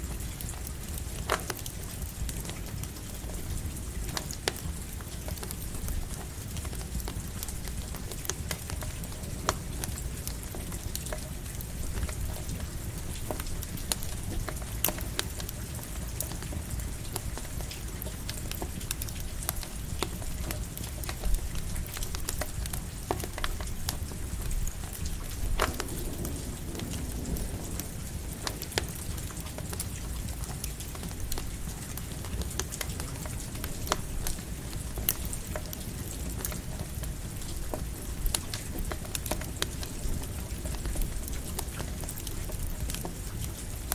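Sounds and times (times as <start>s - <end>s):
campfire crackling and popping: 0.0s - 43.9s
light rain pattering: 0.0s - 43.9s.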